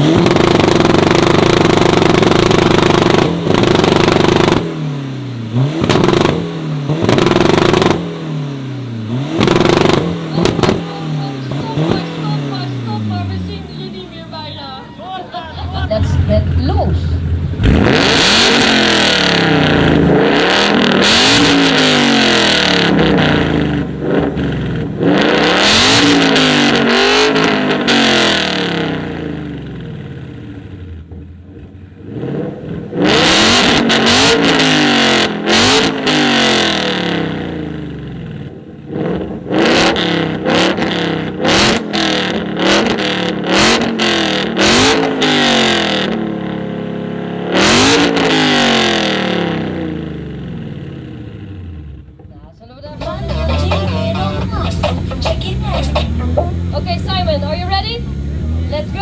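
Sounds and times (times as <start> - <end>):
car engine revving hard: 0.0 - 14.7, 15.5 - 52.1, 52.9 - 59.0
exhaust bangs: 0.0 - 59.0.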